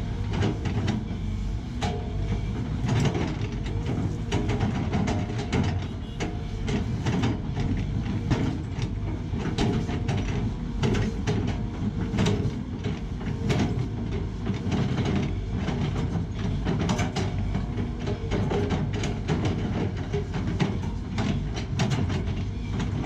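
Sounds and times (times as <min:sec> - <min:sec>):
excavator engine rumble: 0:00.0 - 0:23.0
excavator bucket clanking: 0:01.8 - 0:23.0.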